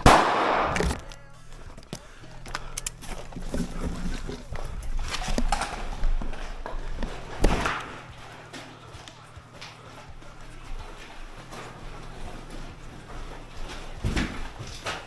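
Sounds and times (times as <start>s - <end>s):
clatter of carried gear: 0.0s - 15.0s
footsteps: 0.0s - 15.0s
steady low hum: 0.0s - 15.0s.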